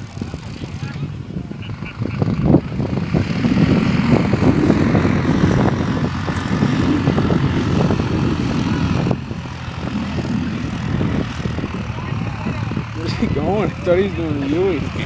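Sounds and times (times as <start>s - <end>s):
atv engine revving hard: 1.6s - 15.0s.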